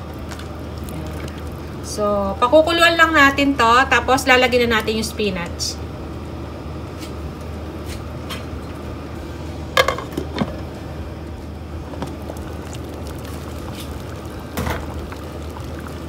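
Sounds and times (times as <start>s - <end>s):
soup bubbling in a pot: 0.0s - 5.0s, 5.8s - 16.0s.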